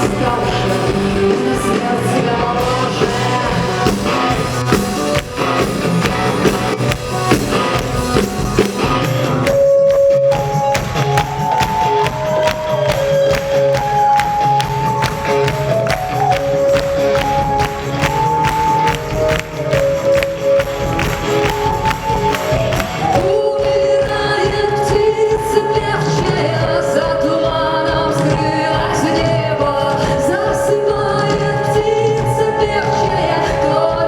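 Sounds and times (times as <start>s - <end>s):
steady drum beat: 0.0s - 30.7s
live rock band music: 0.0s - 34.0s.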